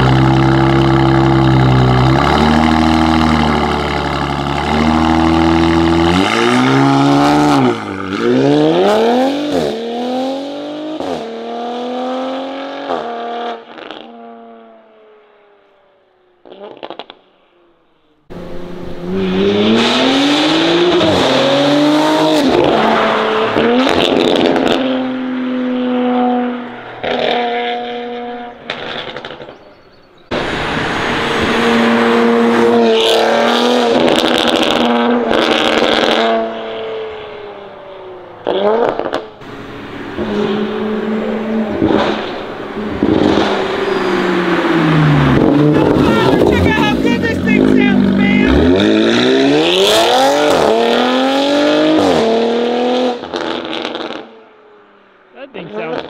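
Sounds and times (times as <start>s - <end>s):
car accelerating through gears: 0.0s - 14.8s, 18.3s - 29.6s, 30.3s - 37.7s, 38.4s - 54.4s.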